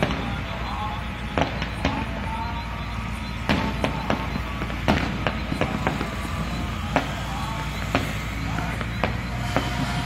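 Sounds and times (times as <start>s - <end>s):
fireworks banging: 0.0s - 10.0s.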